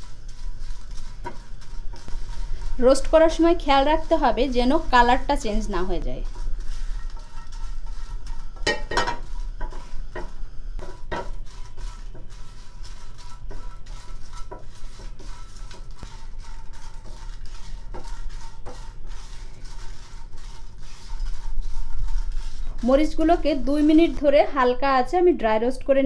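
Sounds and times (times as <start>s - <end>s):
chillies rattling in a pan: 0.0s - 24.5s.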